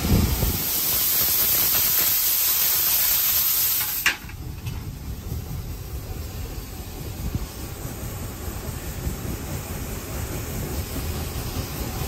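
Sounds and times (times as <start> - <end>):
fire hissing in firebox: 0.0 - 12.0
steam locomotive rumble: 0.0 - 12.0.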